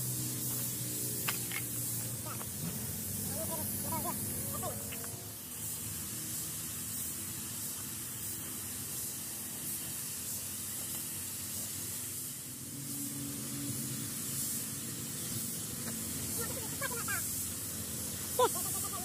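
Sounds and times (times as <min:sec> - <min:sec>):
paint spray gun hissing: 0:00.0 - 0:19.0.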